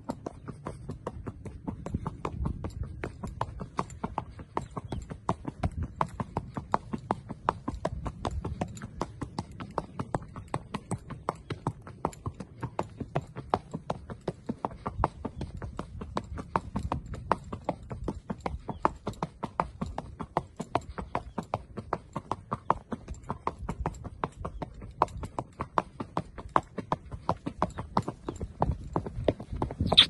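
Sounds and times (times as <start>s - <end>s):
horse hooves clip-clopping on dirt: 0.0s - 30.0s.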